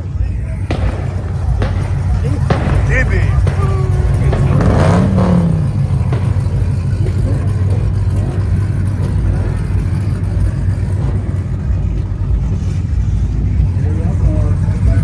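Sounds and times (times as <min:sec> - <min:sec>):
car engine exhaust rumble: 0:00.0 - 0:15.0
car engine revving: 0:00.0 - 0:15.0.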